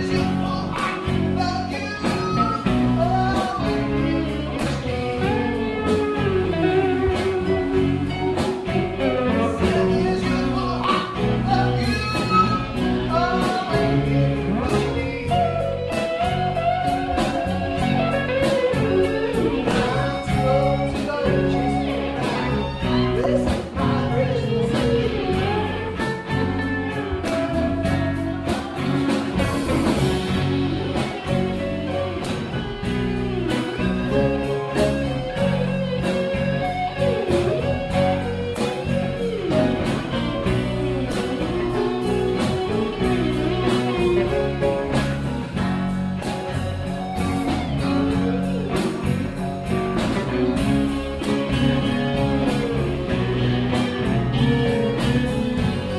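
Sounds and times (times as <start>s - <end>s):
live blues guitar music: 0.0s - 55.9s.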